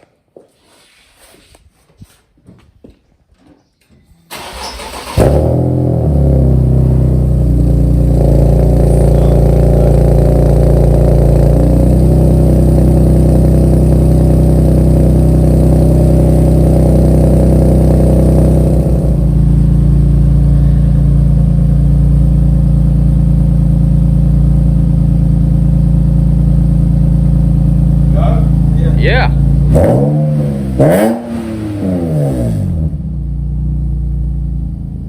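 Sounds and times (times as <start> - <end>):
car engine idling: 4.3 - 30.9, 32.7 - 35.0.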